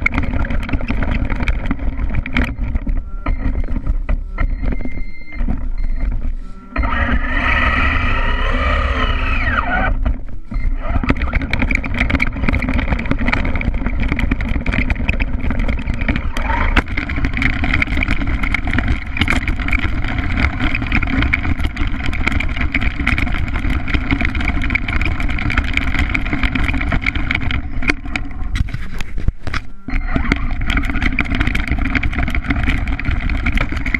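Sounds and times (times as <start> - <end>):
toy truck motor running: 0.0 - 3.8, 4.4 - 33.9
chassis knocks and rattles: 0.0 - 8.7, 9.4 - 33.9.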